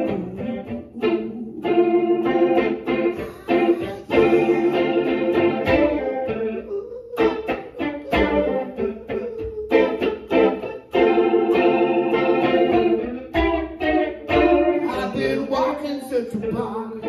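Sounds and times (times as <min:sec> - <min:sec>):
long held melody notes: 0:00.0 - 0:16.0
electric guitar through an amp: 0:00.0 - 0:17.0.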